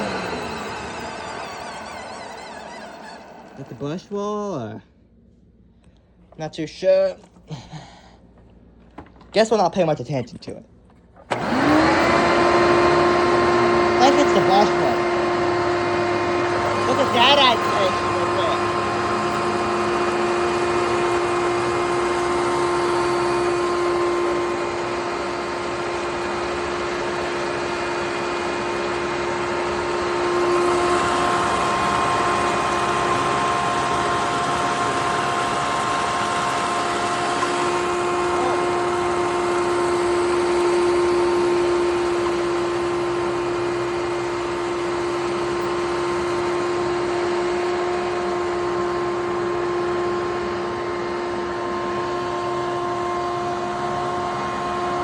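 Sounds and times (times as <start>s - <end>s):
vacuum cleaner humming whine: 0.0s - 4.8s, 11.2s - 55.0s.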